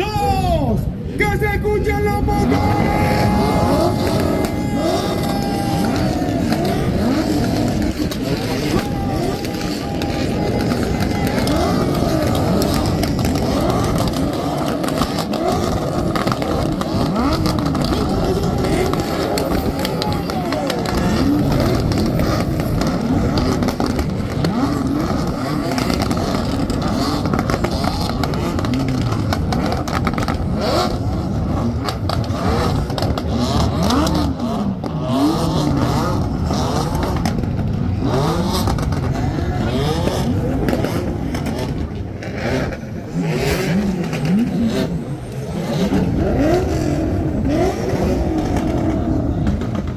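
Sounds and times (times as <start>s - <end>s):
many car engines revving: 0.0s - 49.9s.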